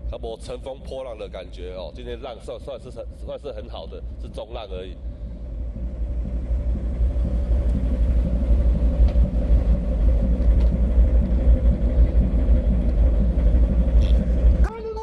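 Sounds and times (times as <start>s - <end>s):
low ship rumble: 0.0s - 15.0s
steady mid hum: 0.0s - 15.0s.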